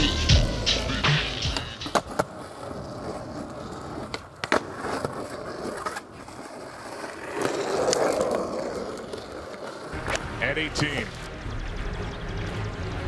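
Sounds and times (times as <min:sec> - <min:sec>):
skateboard wheels rolling on asphalt: 0:00.0 - 0:13.0
skateboard clacks: 0:00.4 - 0:11.2.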